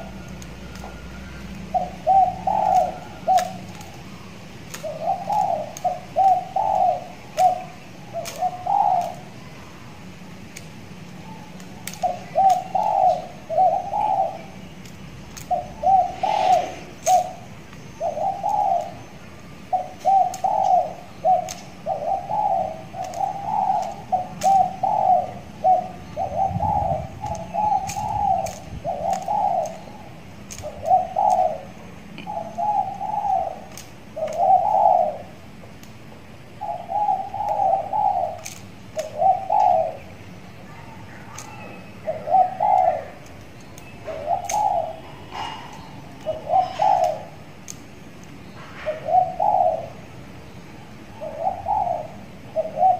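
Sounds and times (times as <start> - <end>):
dove cooing: 0.0 - 35.6, 36.4 - 47.8, 48.5 - 50.2, 51.0 - 52.9.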